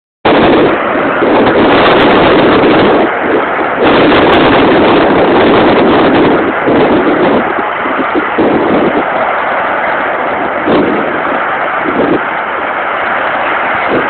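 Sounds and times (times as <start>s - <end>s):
industrial flare roaring: 0.3s - 14.0s.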